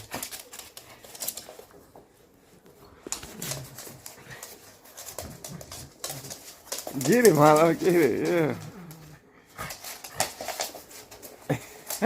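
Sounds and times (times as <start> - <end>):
dogs clicking and scuffling: 0.0 - 12.0.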